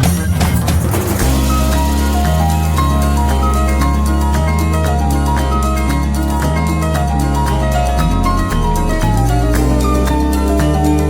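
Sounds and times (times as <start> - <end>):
instrumental music with bass and beat: 0.0 - 11.0.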